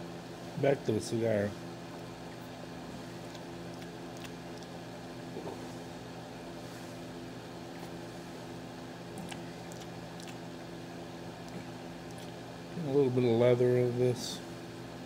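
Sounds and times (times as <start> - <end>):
electric heater humming: 0.0 - 15.0.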